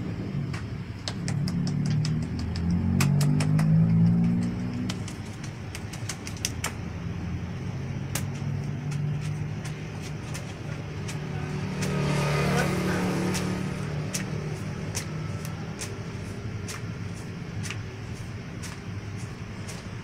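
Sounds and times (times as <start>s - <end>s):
street traffic engines humming: 0.0s - 20.0s.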